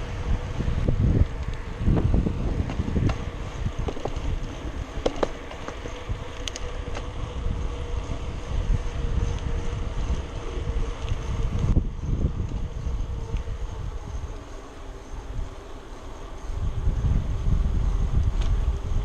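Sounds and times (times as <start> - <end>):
faint steady hum: 0.0 - 19.0
wind buffeting microphone: 0.0 - 19.0.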